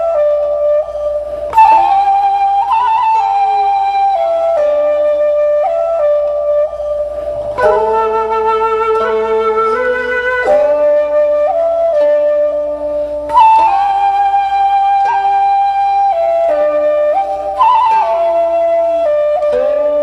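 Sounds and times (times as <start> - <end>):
slow flute music: 0.0 - 20.0.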